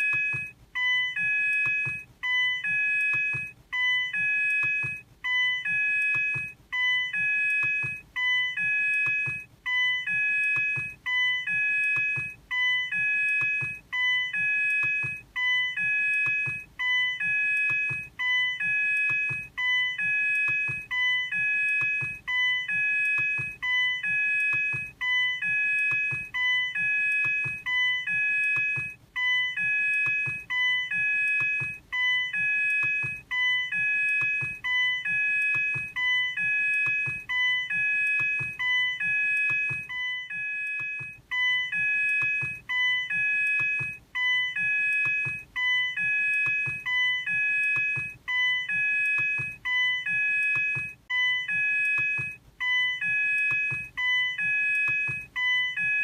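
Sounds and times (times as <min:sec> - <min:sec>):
car warning chime: 0:00.0 - 0:56.0.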